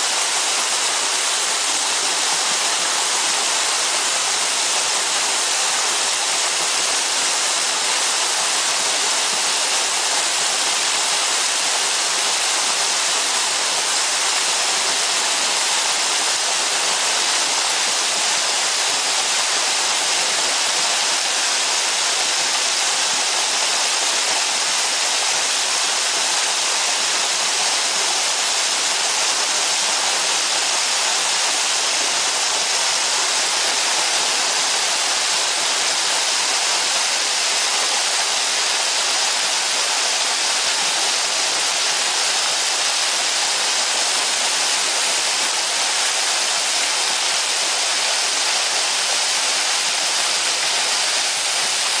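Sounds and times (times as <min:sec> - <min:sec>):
waterfall splashing over rocks: 0:00.0 - 0:52.0.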